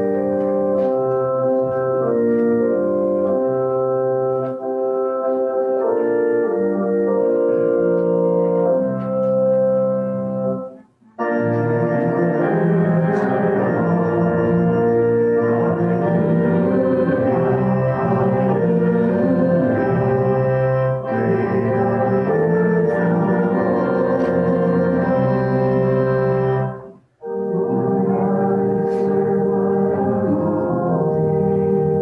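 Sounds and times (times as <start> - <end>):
organ playing sustained chords: 0.0 - 32.0.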